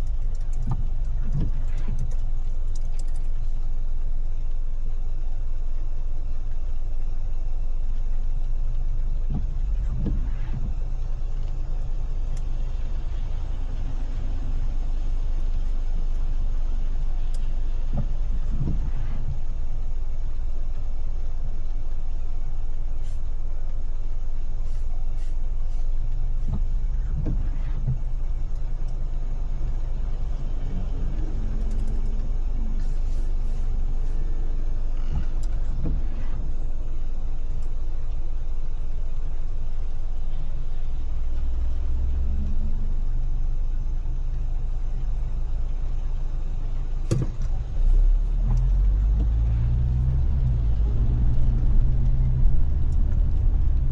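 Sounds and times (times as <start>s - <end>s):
light ticks: 0.0s - 43.1s, 47.0s - 53.9s
car driving on wet road: 0.0s - 53.9s.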